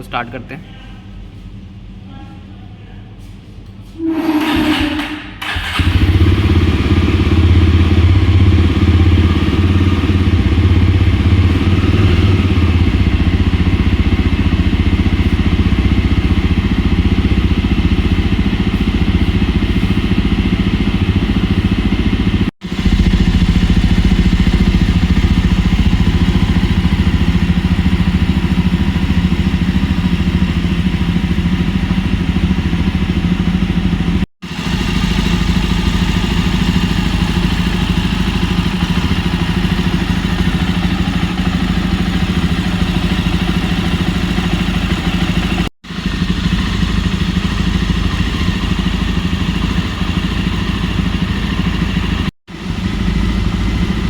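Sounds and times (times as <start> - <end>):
motorcycle engine idling: 4.7 - 54.0.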